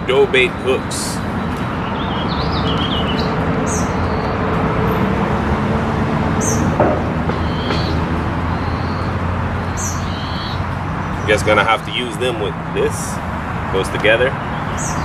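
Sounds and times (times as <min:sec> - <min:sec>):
songbirds chirping: 0:00.0 - 0:05.1, 0:06.3 - 0:15.0.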